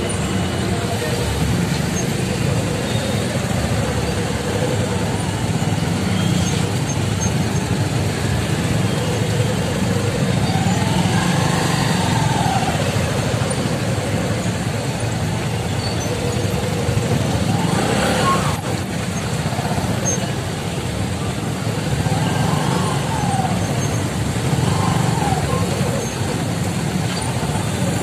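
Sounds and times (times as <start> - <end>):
motorcycle and car engines droning: 0.0 - 28.0.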